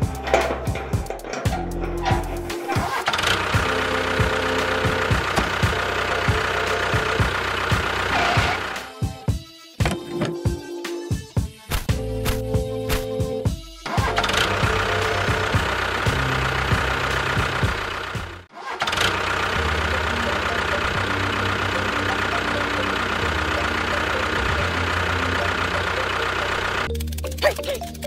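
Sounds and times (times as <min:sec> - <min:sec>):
tractor engine idling: 0:00.0 - 0:10.6, 0:13.3 - 0:28.0.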